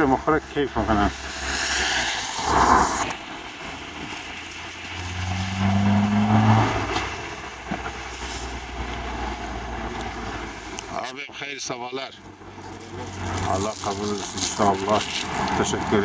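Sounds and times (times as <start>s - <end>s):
low rumble of traffic: 0.0s - 16.0s
vehicle engine hum: 0.0s - 16.0s.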